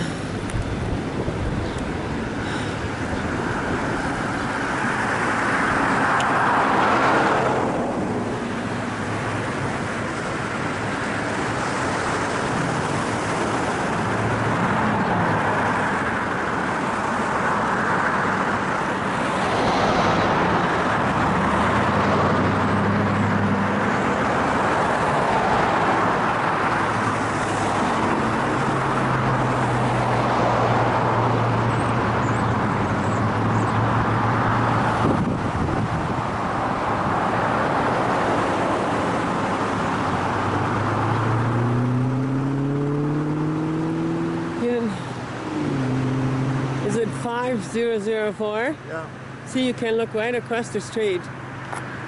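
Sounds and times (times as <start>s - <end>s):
low engine hum: 0.0s - 48.0s
cars passing: 0.0s - 52.0s.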